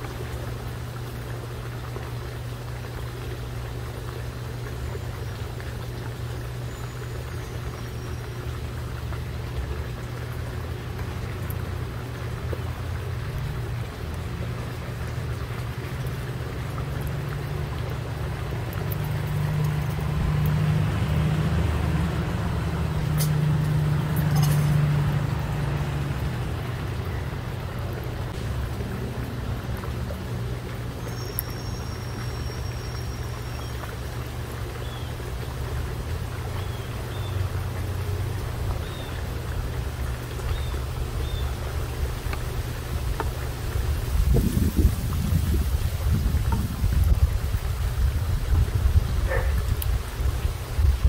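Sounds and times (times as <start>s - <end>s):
road traffic engine rumble: 0.0s - 51.0s.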